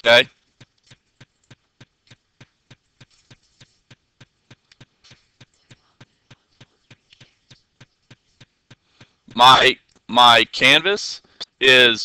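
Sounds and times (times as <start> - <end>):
regular sharp clicking: 0.0 - 11.6.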